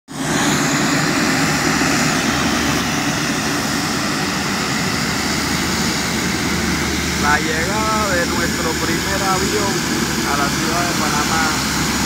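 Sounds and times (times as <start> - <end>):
turboprop engines running: 0.1 - 12.0.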